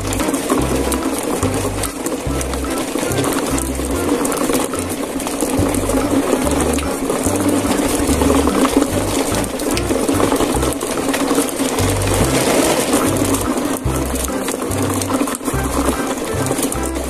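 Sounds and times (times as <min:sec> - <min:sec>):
background music: 0:00.0 - 0:17.0
toy wheels clattering on dirt: 0:00.0 - 0:17.0.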